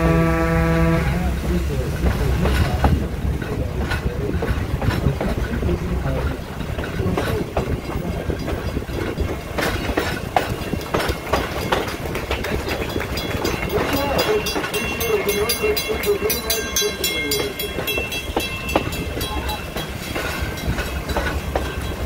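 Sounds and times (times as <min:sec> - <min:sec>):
low train rumble: 0:00.0 - 0:22.0
train wheels clicking on rails: 0:00.0 - 0:22.0.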